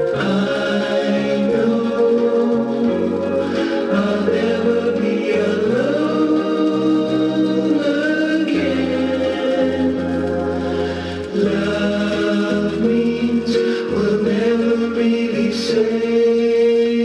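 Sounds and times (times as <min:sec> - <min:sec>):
soft pop ballad from vinyl record: 0:00.0 - 0:17.0.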